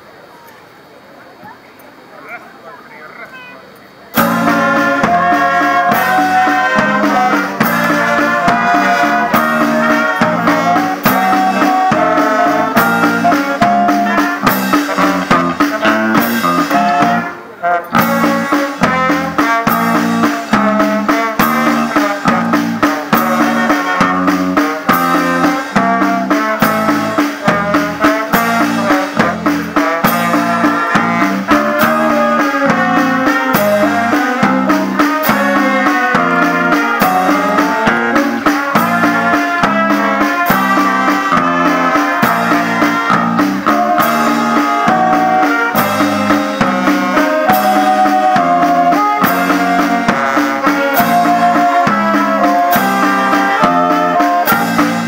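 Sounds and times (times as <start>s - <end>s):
brass band playing: 2.7s - 55.0s
bass guitar: 4.2s - 55.0s
snare and bass drum: 4.2s - 55.0s.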